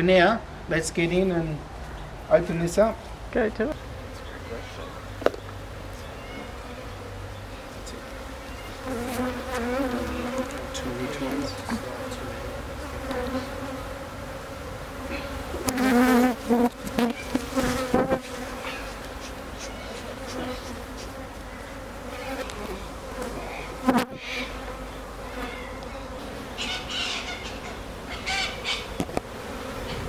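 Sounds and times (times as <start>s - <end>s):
honeybees buzzing: 0.9s - 30.0s.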